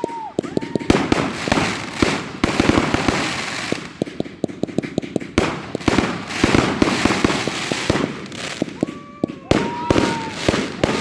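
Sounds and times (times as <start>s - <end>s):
fireworks hiss: 0.0s - 8.9s
fireworks crackling: 0.0s - 11.0s.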